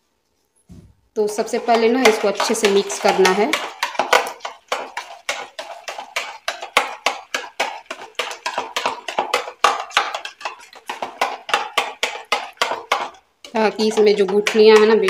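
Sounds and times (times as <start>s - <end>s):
spoon beating in plastic bowl: 1.2s - 15.0s.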